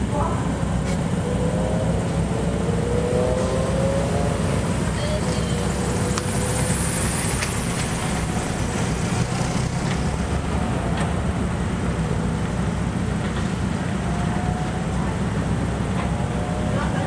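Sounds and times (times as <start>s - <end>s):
cars idling: 0.0s - 17.0s.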